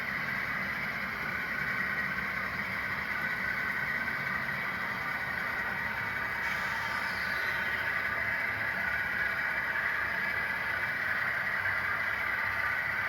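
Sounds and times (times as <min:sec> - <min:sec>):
train cars rolling past: 0:00.0 - 0:13.0.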